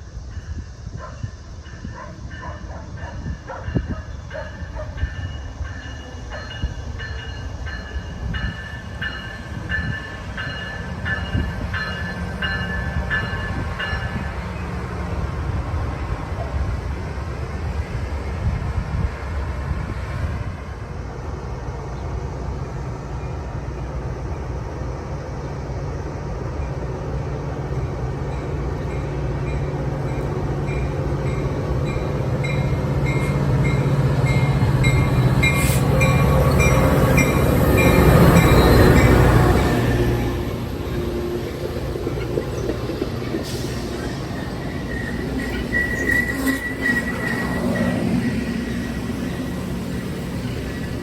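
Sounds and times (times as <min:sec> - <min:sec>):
train rumbling: 0:00.0 - 0:51.0.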